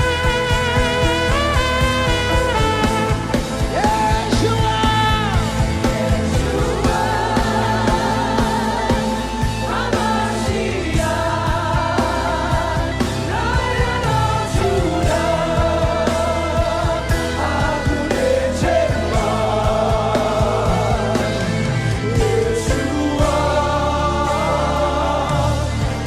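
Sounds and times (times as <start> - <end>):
band playing worship music: 0.0 - 26.0
voices singing: 0.0 - 26.0.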